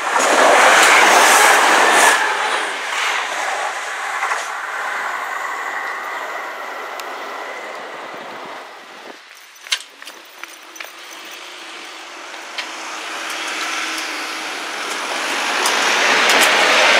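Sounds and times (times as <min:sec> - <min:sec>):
diesel train: 0:00.0 - 0:16.9
road traffic: 0:00.0 - 0:16.9.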